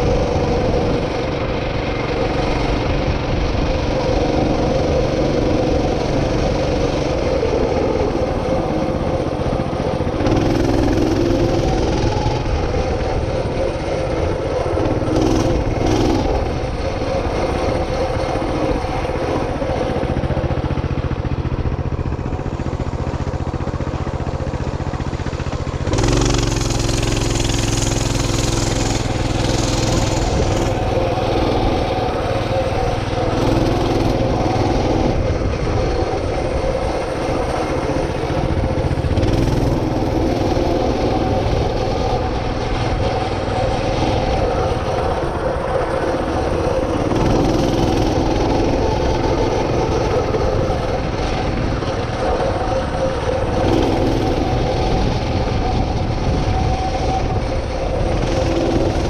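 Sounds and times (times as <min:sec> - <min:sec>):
small engine running: 0:00.0 - 0:59.0
wind rumble on microphone: 0:00.0 - 0:59.0.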